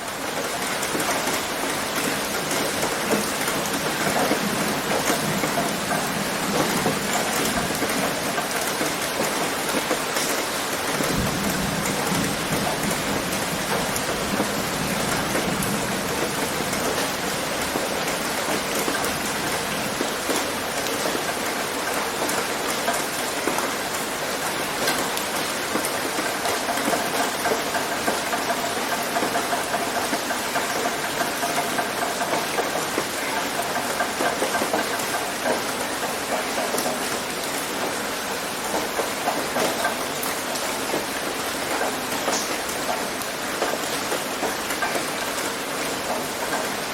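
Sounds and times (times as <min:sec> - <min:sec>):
rain on a tin roof: 0:00.0 - 0:46.9.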